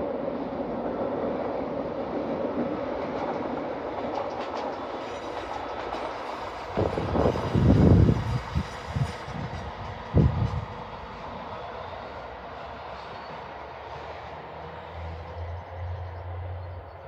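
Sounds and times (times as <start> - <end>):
distant train rumbling: 0.0 - 17.0.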